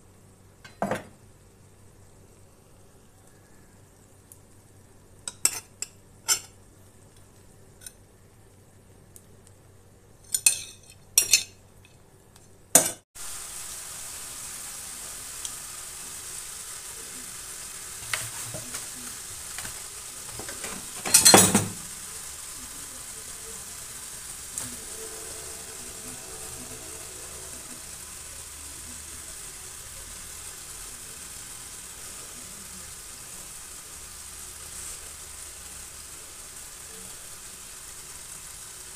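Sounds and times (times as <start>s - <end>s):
food sizzling on metal tray: 0.0s - 12.2s, 13.2s - 38.9s.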